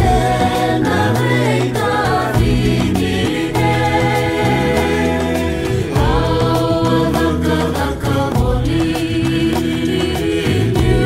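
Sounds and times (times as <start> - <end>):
bass guitar: 0.0 - 11.0
keyboard: 0.0 - 11.0
voices singing a hymn: 0.0 - 11.0.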